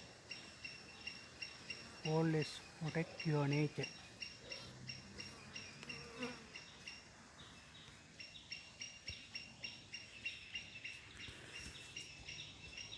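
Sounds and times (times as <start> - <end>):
insect chirping: 0.0 - 12.9.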